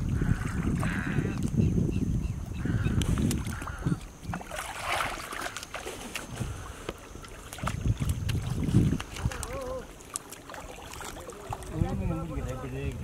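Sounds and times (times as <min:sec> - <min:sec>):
wind rumbling on microphone: 0:00.0 - 0:10.0, 0:10.6 - 0:13.0
water splashing and sloshing: 0:00.0 - 0:13.0.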